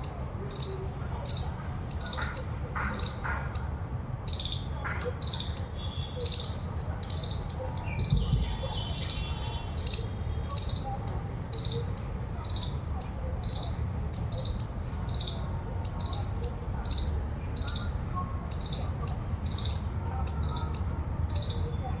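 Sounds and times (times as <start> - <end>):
insect chirps: 0.0 - 22.0
insects trilling: 0.0 - 22.0.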